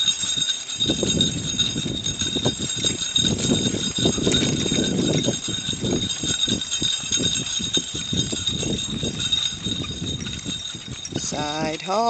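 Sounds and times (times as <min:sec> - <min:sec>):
rattling cart frame: 0:00.0 - 0:12.0.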